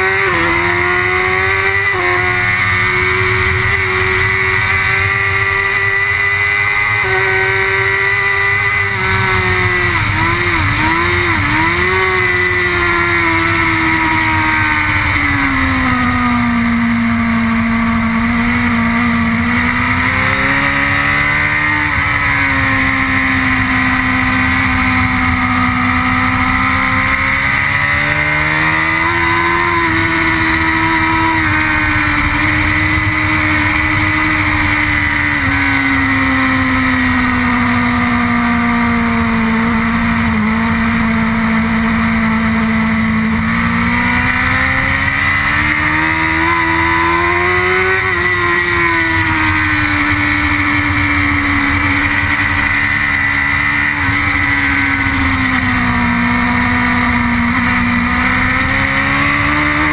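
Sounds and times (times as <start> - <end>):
motorcycle engine at race pace: 0.0 - 59.9.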